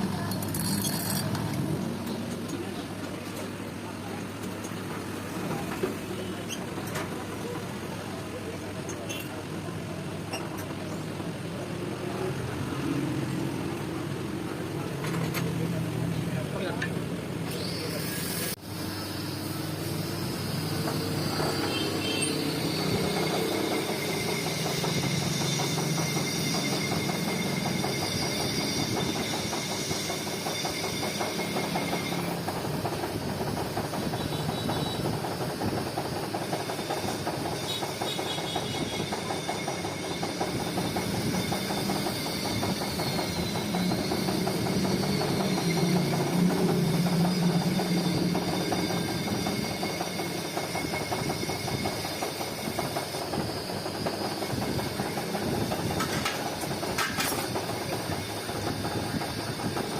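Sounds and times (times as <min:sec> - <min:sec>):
workshop machine running: 0:00.0 - 0:59.9.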